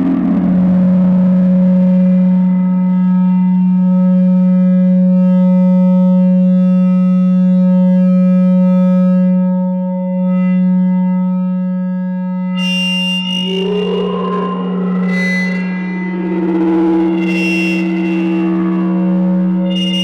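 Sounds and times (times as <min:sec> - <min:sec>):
mixer feedback drone: 0:00.0 - 0:20.0.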